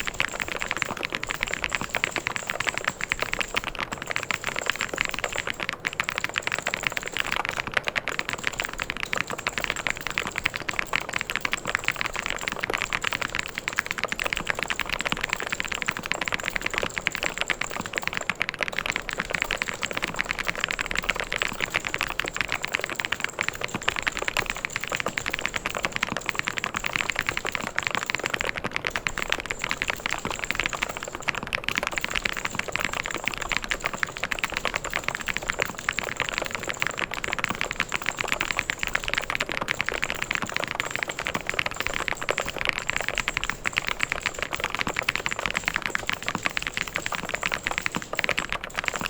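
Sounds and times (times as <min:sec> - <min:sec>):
mechanical keyboard typing: 0:00.0 - 0:49.0.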